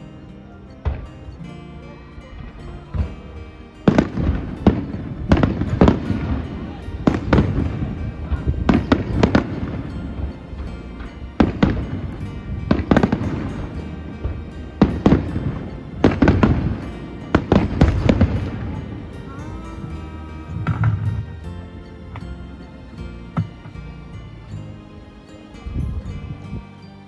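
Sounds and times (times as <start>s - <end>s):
continuous low rumble: 0.0s - 27.0s.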